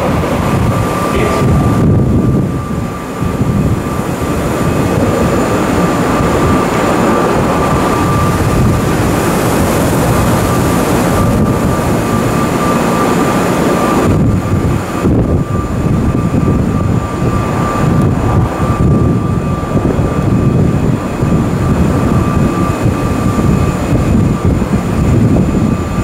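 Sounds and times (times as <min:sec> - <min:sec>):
thin high whine: 0:00.0 - 0:26.0
train equipment rushing hum: 0:00.0 - 0:26.0.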